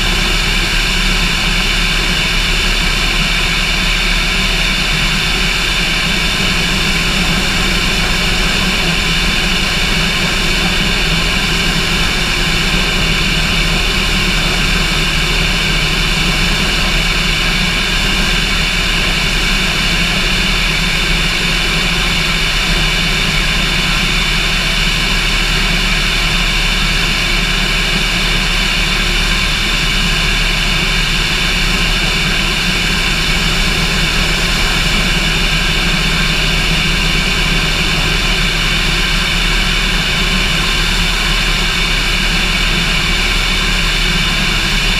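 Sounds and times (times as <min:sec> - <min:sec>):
light aircraft engine drone: 0:00.0 - 0:44.9.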